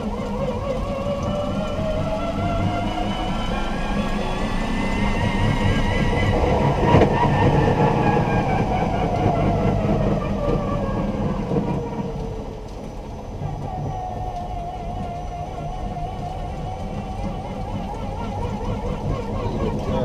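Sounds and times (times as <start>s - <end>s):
road and drivetrain rumble: 0.0s - 20.0s.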